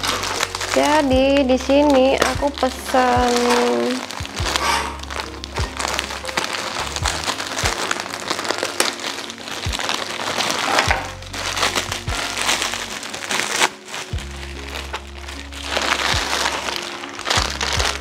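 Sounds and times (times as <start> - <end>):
lofi hip hop music: 0.0 - 18.0
plastic bag crinkling: 0.0 - 18.0
scissors snipping plastic: 0.0 - 18.0.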